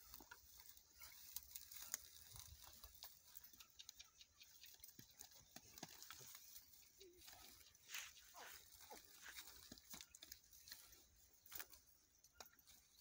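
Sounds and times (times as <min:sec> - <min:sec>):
donkey munching dry grass: 0:00.0 - 0:13.0.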